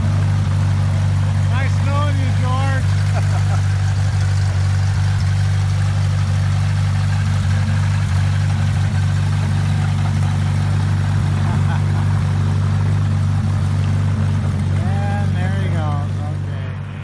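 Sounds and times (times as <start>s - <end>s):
gyrocopter engine and propeller drone: 0.0s - 17.0s.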